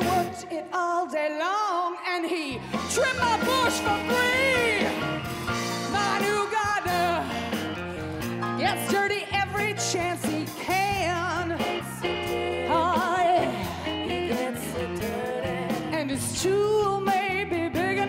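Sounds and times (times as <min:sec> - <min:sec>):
instrumental accompaniment with bass: 0:00.0 - 0:00.6, 0:02.6 - 0:18.0
woman singing blues: 0:00.0 - 0:05.1, 0:05.8 - 0:18.0.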